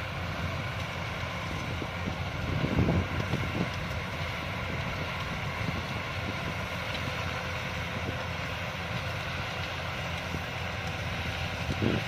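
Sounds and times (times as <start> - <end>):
combine harvester diesel engine: 0.0 - 12.0
threshing machinery running: 0.0 - 12.0.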